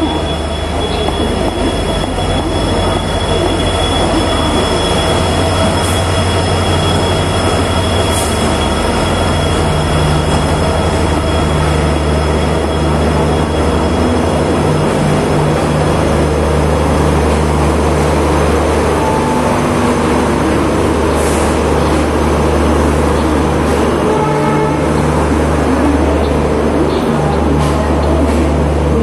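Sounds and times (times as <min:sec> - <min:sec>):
diesel engine drone: 0:00.0 - 0:29.0
train wheels rumbling: 0:00.0 - 0:29.0.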